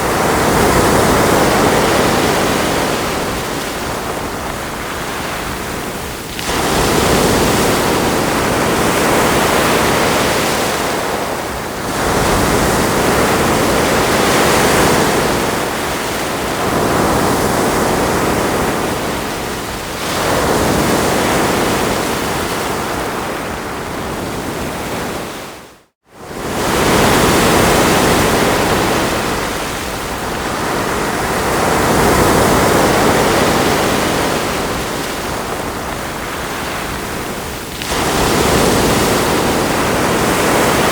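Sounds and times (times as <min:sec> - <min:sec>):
ocean waves washing onto shore: 0:00.0 - 0:40.9.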